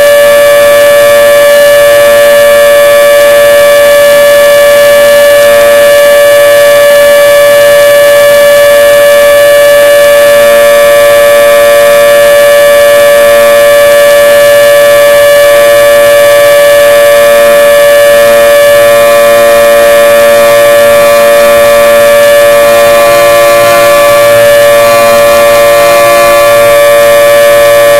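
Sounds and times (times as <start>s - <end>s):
dual-tone warning siren: 0.0s - 27.9s.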